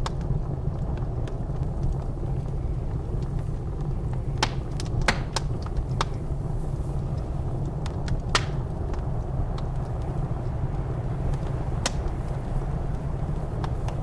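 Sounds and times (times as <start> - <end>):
blizzard wind rumble: 0.0 - 14.0
fire popping: 0.0 - 14.0
wood fire crackling: 0.0 - 14.0.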